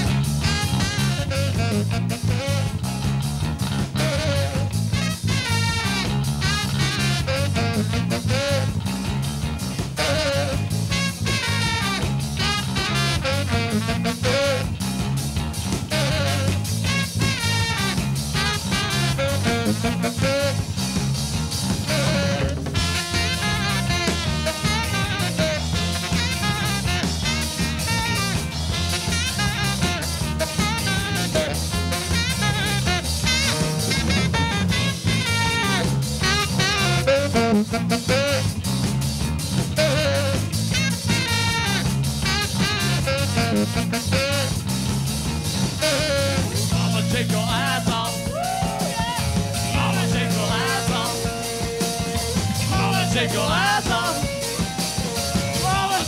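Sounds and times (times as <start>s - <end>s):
electric guitar solo: 0.0s - 38.7s, 39.5s - 44.6s, 45.6s - 56.0s
bass guitar: 0.0s - 56.0s
steady drum beat: 0.0s - 56.0s.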